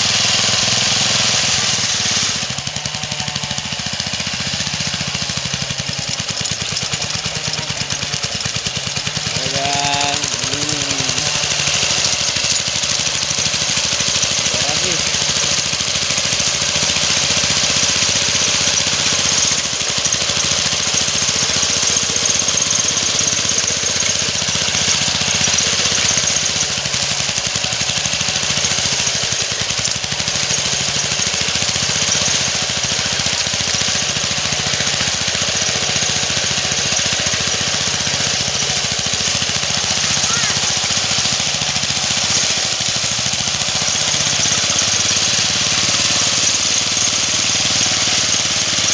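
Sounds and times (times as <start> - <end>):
brush cutter engine cutting grass: 0.0 - 48.9.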